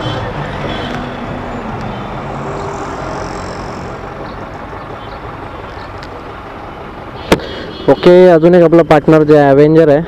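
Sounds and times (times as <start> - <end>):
road and traffic noise: 0.0 - 10.0.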